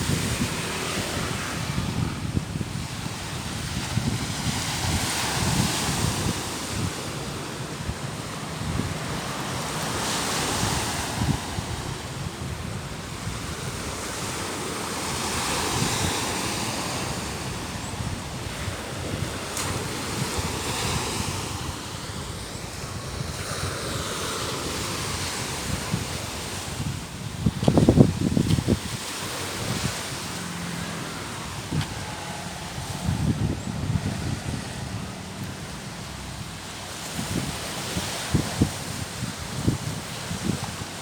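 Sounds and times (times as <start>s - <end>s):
sea waves washing onto shore: 0.0s - 41.0s
wind buffeting microphone: 0.0s - 41.0s.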